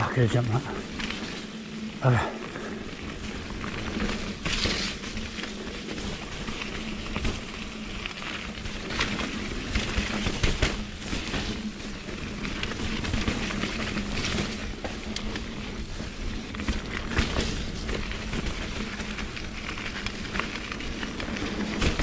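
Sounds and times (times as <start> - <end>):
bike rattling over bumps: 0.0 - 22.0
bike tyres on dirt trail: 0.0 - 22.0.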